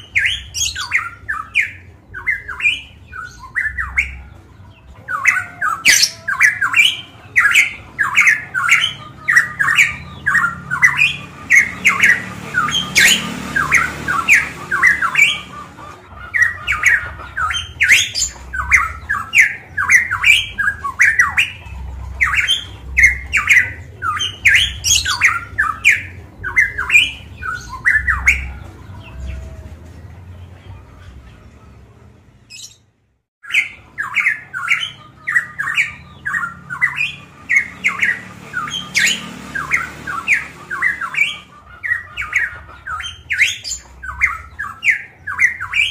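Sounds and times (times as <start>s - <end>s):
bird singing rapid sharp notes: 0.0s - 29.5s, 32.5s - 45.9s.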